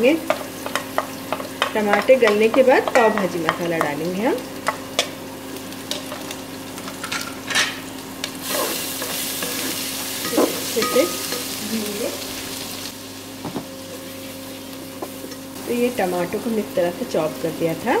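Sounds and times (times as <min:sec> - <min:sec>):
spices sizzling in oil: 0:00.0 - 0:18.0.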